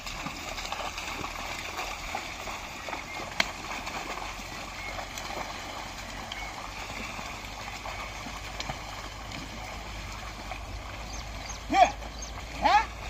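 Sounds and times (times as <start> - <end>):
water and mud sloshing: 0.0 - 13.0.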